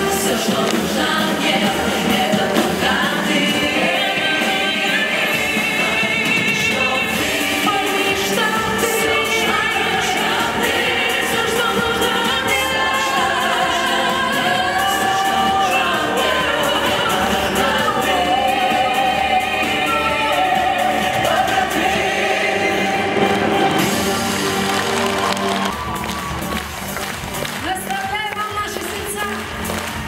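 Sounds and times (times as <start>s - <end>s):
women singing pop song: 0.0s - 24.4s.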